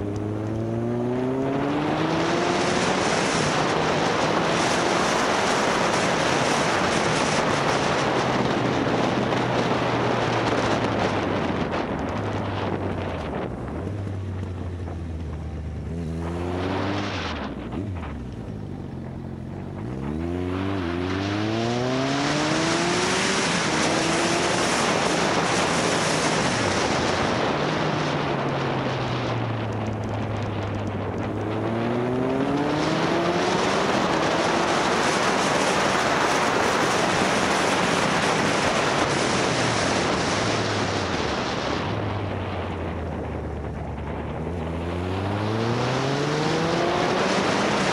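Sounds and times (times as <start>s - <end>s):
motorcycle engine accelerating: 0.0s - 47.9s
wind rush over microphone: 0.0s - 47.9s.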